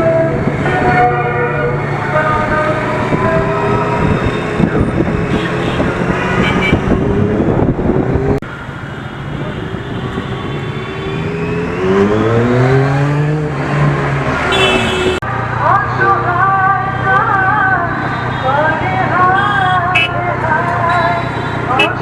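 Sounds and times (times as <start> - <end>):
motorcycle engine revving: 0.0 - 8.5, 9.4 - 15.8, 17.1 - 22.0
motorcycle engines running: 0.0 - 22.0.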